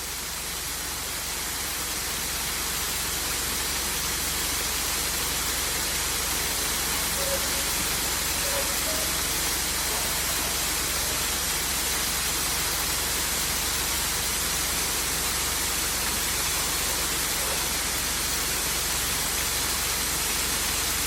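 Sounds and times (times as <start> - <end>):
waterfall rushing: 2.9 - 21.0.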